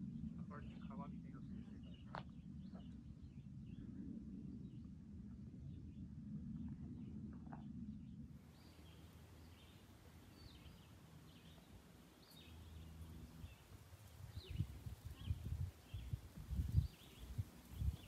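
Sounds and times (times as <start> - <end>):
birds chirping: 0.0 - 18.0
faint low rumble: 0.0 - 18.0.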